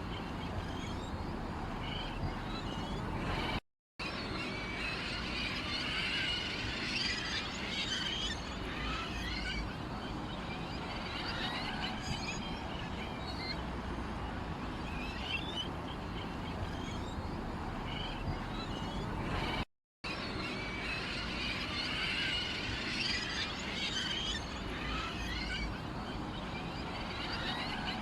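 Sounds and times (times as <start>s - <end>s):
small birds chirping: 0.0s - 3.6s, 6.0s - 19.6s, 20.2s - 28.0s.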